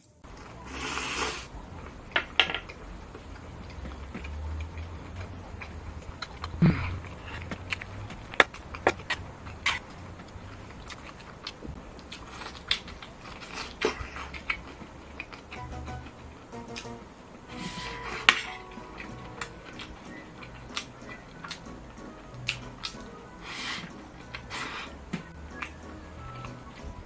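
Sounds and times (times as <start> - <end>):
person chewing: 3.2 - 25.8.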